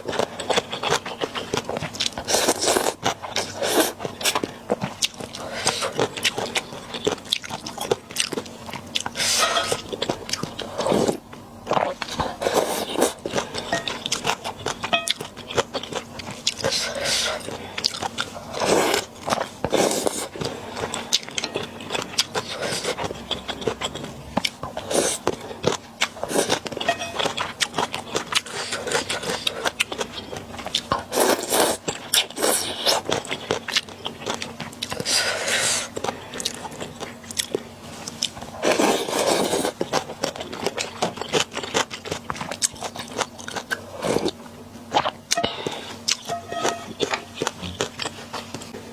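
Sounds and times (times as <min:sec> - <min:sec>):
crunchy chewing and biting: 0:00.0 - 0:48.9.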